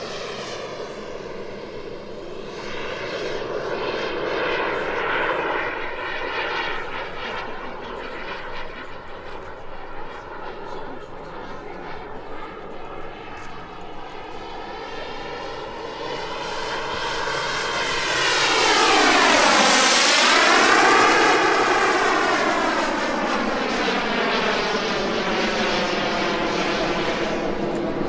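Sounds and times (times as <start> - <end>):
jet turbine roar: 0.0 - 28.0.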